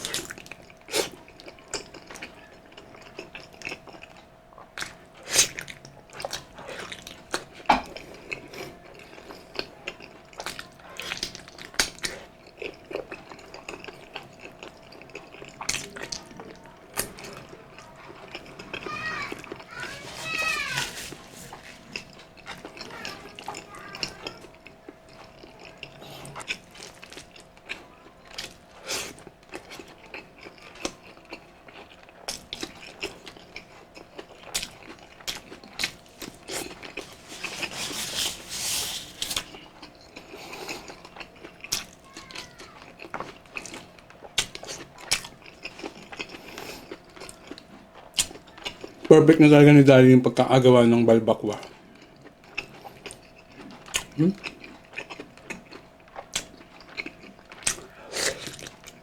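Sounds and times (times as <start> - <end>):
chewing and mouth smacks: 0.0 - 19.8, 21.2 - 38.4, 39.1 - 49.1, 51.6 - 59.0.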